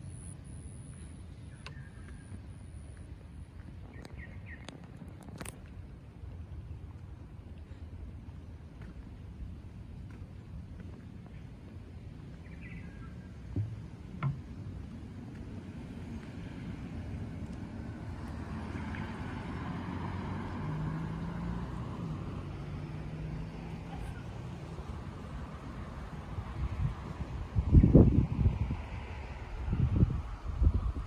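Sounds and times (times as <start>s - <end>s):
vehicle passing rumble: 2.3s - 31.0s.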